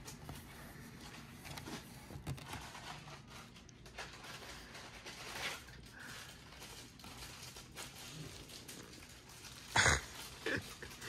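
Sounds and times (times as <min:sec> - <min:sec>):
soft handling noises: 0:00.0 - 0:09.6
low room hum: 0:00.0 - 0:11.0.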